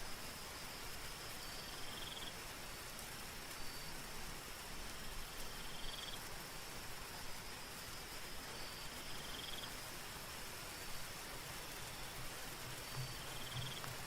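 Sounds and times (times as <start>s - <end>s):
high insect drone: 0.0s - 14.0s
soft steady rain: 0.0s - 14.0s.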